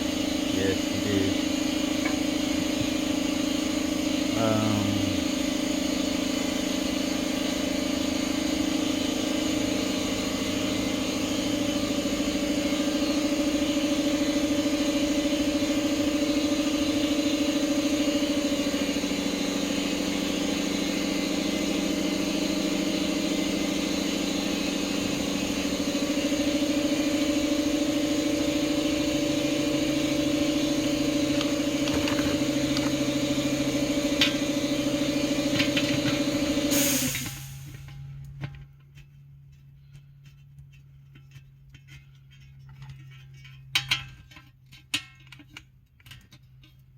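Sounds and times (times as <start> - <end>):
motor running drone: 0.0 - 40.0.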